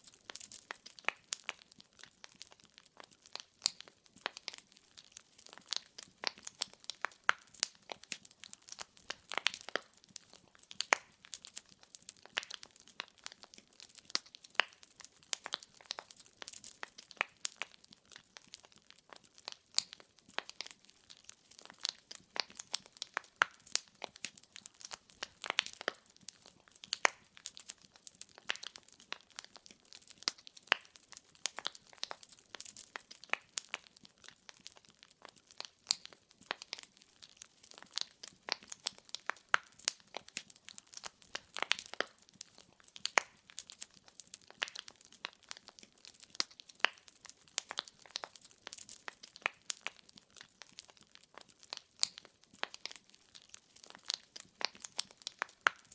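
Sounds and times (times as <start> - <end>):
firewood crackling and popping: 0.0 - 55.9.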